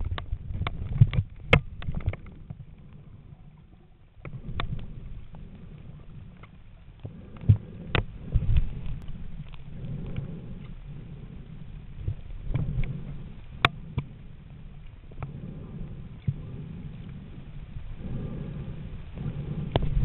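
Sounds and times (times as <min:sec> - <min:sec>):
underwater rumbling: 0:00.0 - 0:20.0.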